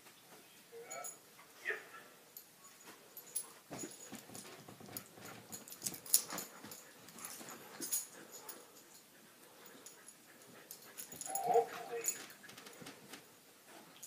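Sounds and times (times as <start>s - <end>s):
puppy scuffling: 2.7s - 14.0s.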